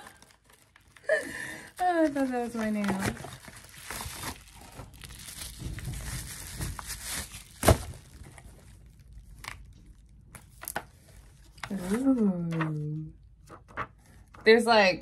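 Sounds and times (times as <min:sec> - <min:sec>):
paper crinkling: 0:00.0 - 0:12.8.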